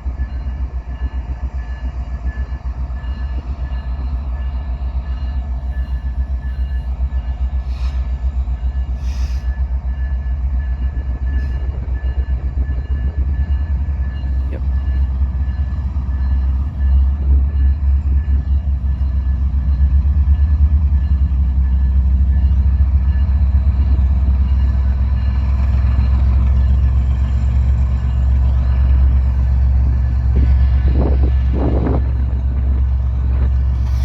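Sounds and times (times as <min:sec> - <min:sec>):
diesel locomotives rumbling: 0:00.0 - 0:34.0.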